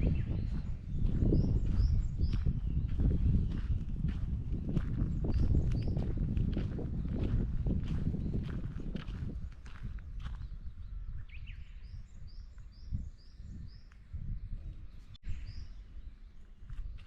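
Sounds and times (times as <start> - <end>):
bird chirping: 0.0 - 6.2, 7.0 - 17.0.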